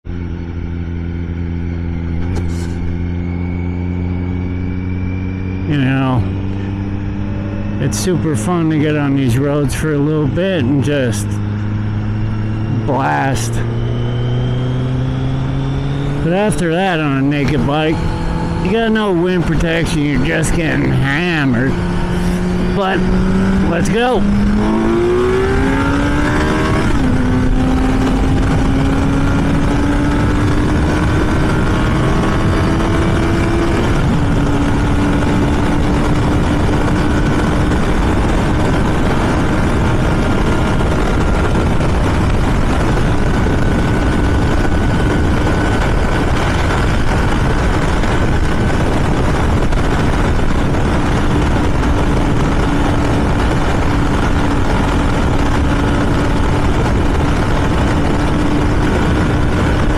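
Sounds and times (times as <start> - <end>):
heavy wind noise: 0.0 - 59.9
motorcycle engine accelerating: 0.0 - 59.9.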